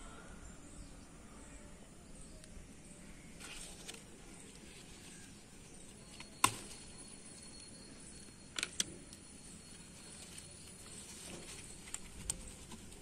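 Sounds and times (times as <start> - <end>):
faint background noise: 0.0 - 13.0
faint high steady tone: 0.0 - 13.0.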